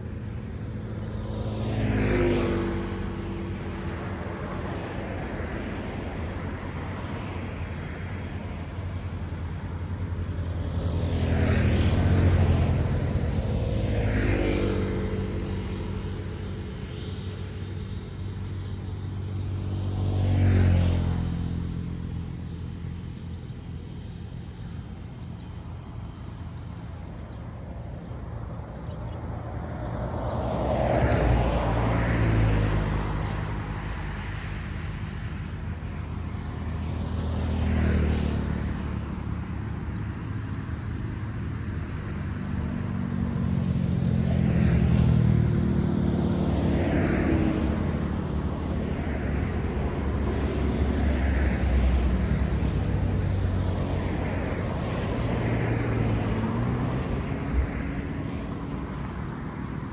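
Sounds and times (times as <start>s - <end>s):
low engine hum: 0.0s - 59.9s
vehicles passing by: 0.0s - 59.9s.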